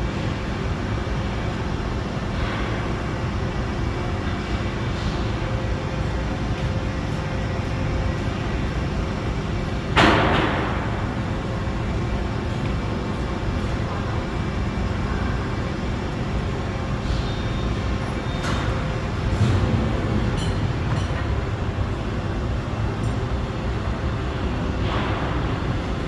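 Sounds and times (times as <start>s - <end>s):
low machine rumble: 0.0s - 26.0s.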